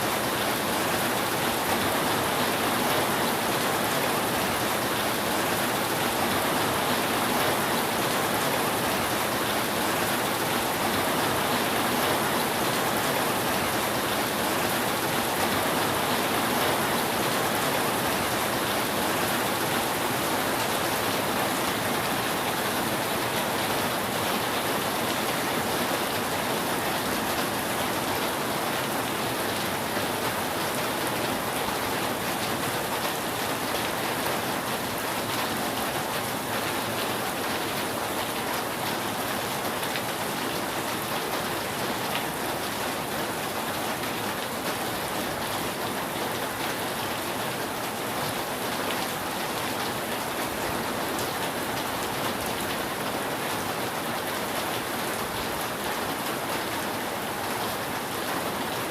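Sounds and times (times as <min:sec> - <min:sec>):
rain falling on a roof: 0:00.0 - 0:58.9.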